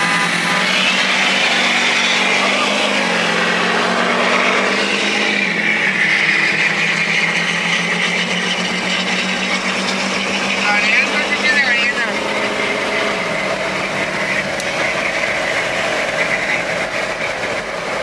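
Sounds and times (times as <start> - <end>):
road and wind noise: 0.0 - 18.0
truck engine driving: 0.0 - 18.0.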